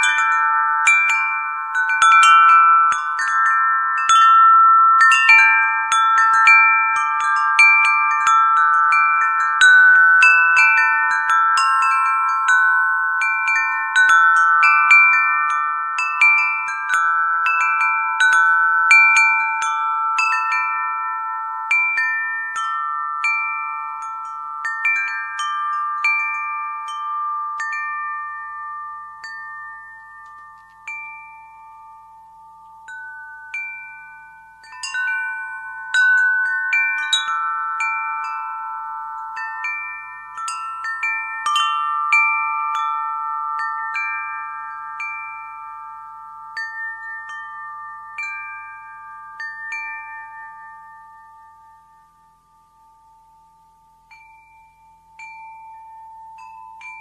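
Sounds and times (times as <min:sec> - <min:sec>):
wind chimes ringing: 0:00.0 - 0:57.0.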